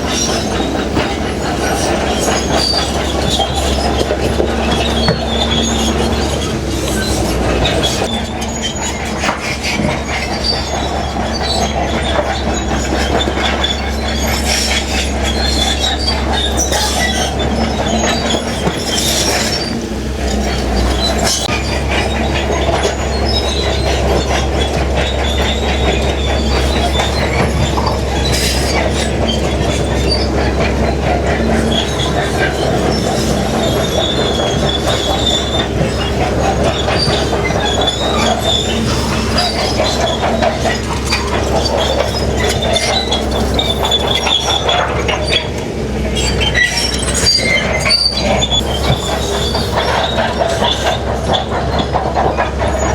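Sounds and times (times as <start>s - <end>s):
diesel engine droning: 0.0s - 52.9s
steel tracks clattering and squealing: 0.0s - 52.9s.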